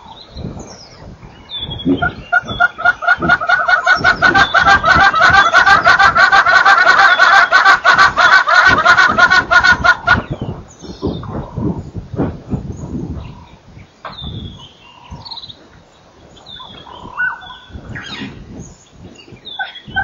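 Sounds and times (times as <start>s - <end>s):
birds calling in harsh chorus: 0.0s - 20.0s.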